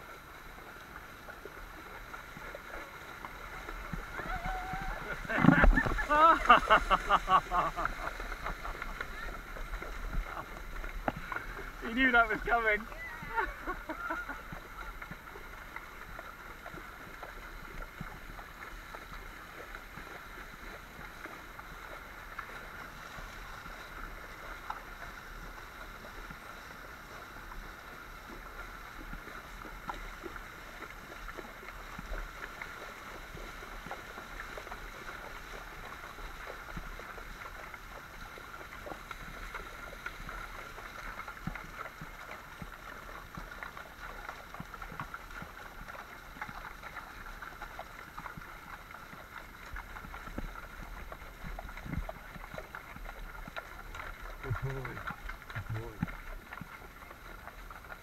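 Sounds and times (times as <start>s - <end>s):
horses splashing through water: 0.0s - 58.0s.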